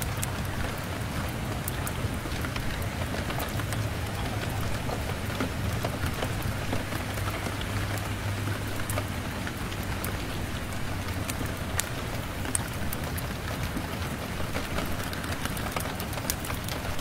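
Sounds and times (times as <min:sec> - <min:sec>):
rain pattering on window glass: 0:00.0 - 0:17.0
wood fire crackling: 0:00.0 - 0:17.0.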